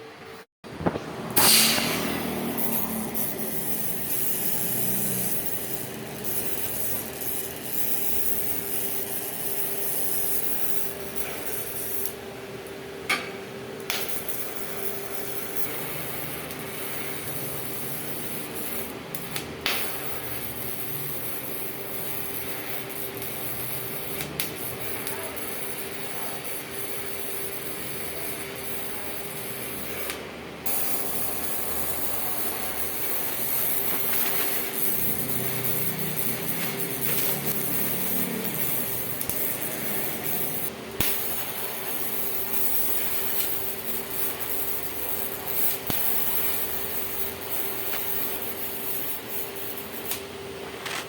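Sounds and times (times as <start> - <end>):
welding arc hissing: 1.2 - 51.0.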